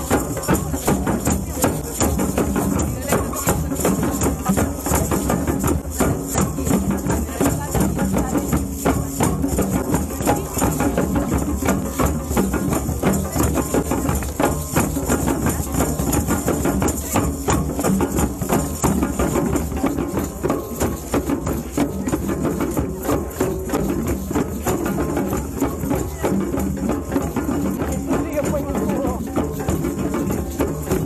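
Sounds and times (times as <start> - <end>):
fast dense drumming: 0.0 - 31.0
jingling shakers: 0.0 - 31.0.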